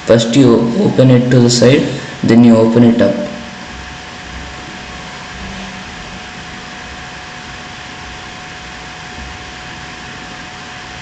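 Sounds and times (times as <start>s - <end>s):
faint hum tone: 0.0s - 11.0s
steady background hiss: 0.0s - 11.0s.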